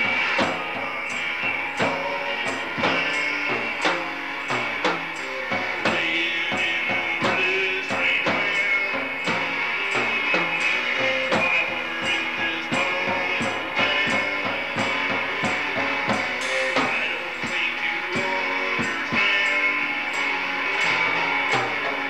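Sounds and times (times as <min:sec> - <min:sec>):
drum kit beat: 0:00.0 - 0:22.0
electric guitar: 0:00.0 - 0:22.0.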